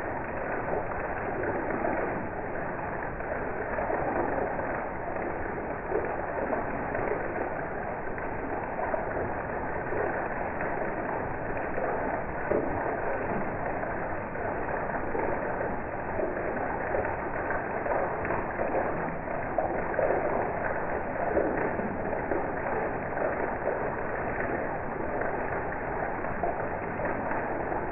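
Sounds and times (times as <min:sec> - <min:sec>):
heavy rain on garden: 0:00.0 - 0:27.9.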